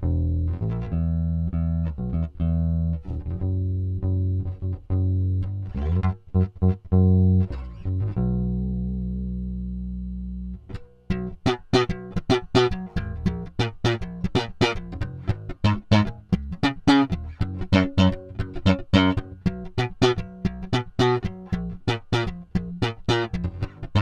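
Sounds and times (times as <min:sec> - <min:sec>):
electric bass notes: 0:00.0 - 0:24.0.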